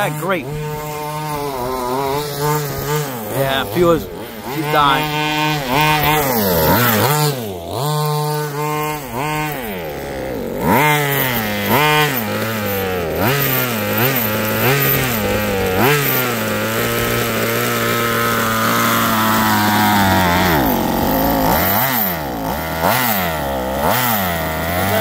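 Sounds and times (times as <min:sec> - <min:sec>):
small two-stroke engine revving: 0:00.0 - 0:25.0.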